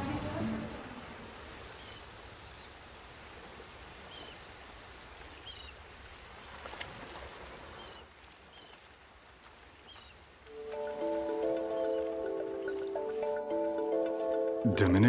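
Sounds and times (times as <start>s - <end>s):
calm sea washing on sand: 0.0s - 13.4s.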